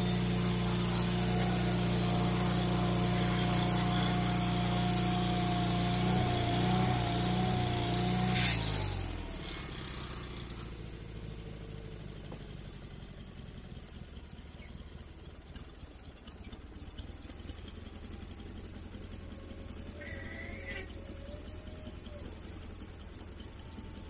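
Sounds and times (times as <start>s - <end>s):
sawmill engine throttling down: 0.0s - 24.0s.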